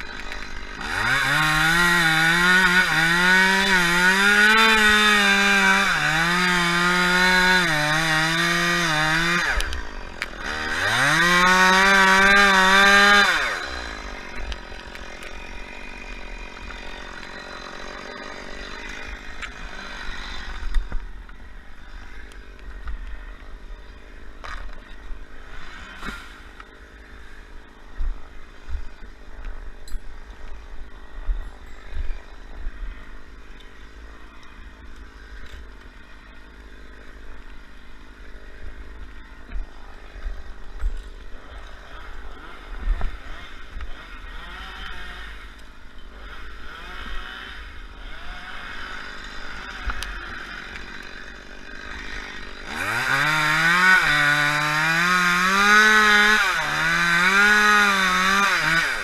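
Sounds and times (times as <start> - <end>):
chainsaw running at high revs: 0.0 - 59.0.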